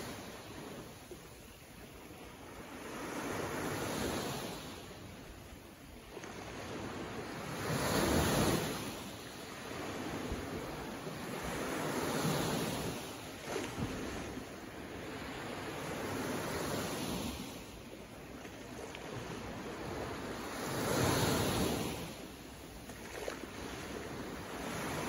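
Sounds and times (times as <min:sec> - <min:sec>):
small waves breaking on beach: 0:00.0 - 0:25.0.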